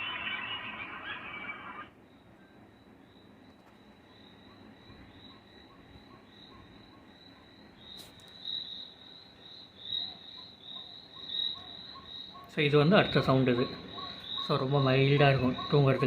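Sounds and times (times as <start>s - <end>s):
cricket chirping from speaker: 0.0s - 16.0s.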